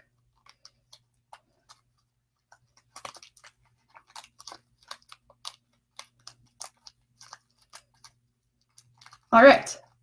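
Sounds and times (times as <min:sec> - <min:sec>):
newspaper crinkling and crunching: 0:00.1 - 0:10.0
tape being wrapped: 0:00.4 - 0:10.0.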